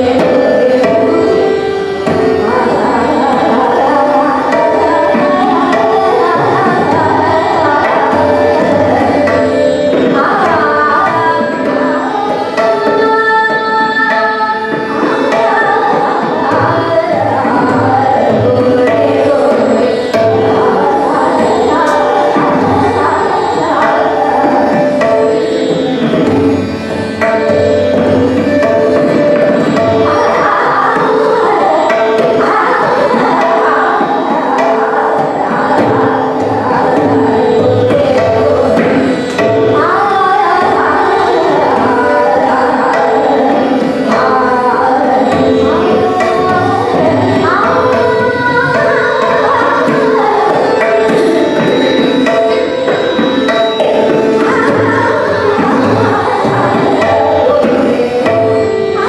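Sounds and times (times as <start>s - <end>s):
tabla strokes: 0.0s - 59.0s
woman singing classical vocal: 0.0s - 59.0s.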